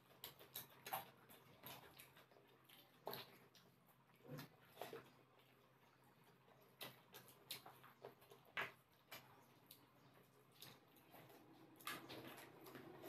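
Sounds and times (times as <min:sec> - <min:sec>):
wet clicks of eating by hand: 0:00.0 - 0:13.0.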